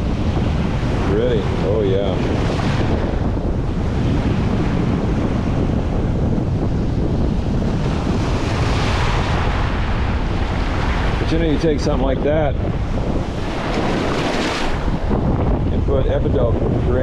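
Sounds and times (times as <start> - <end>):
waves breaking on beach: 0.0 - 17.0
wind buffeting microphone: 0.0 - 17.0.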